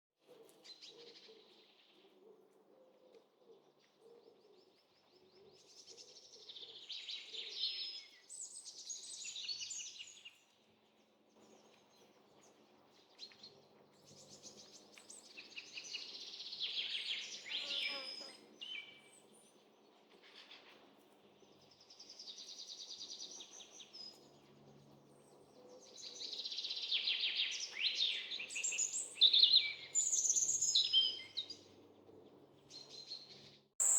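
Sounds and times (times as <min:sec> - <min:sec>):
faint outdoor background noise: 0:00.2 - 0:33.9.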